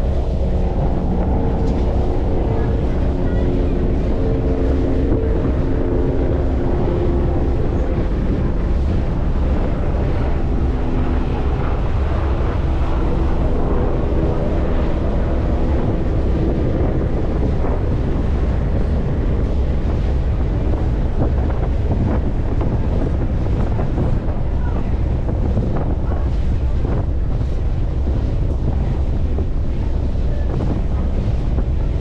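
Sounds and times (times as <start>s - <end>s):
ferry engine rumble: 0.0s - 32.0s
water: 0.0s - 32.0s
wind buffeting microphone: 0.0s - 32.0s.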